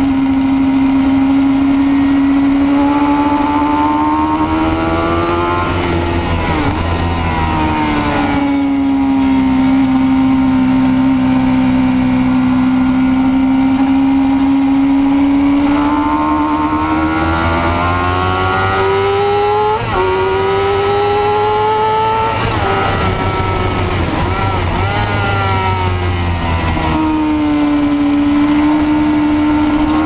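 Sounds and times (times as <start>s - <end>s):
racing motorcycle engine: 0.0s - 30.0s
wind rush on microphone: 0.0s - 30.0s.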